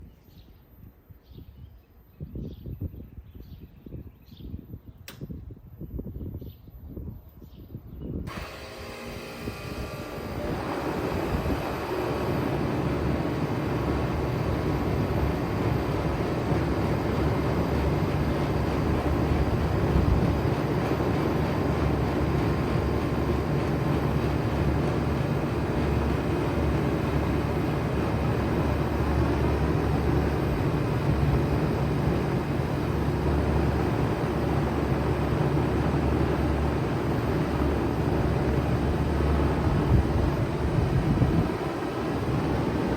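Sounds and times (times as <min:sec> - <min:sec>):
heat pump low hum: 0:00.0 - 0:42.9.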